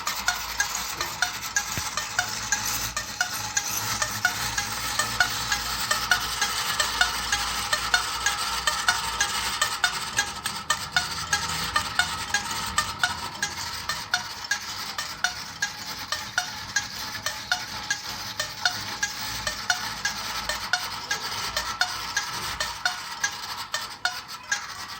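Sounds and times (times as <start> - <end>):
clockwork clicks: 0.0 - 24.9
clockwork metallic whirring: 0.0 - 24.9.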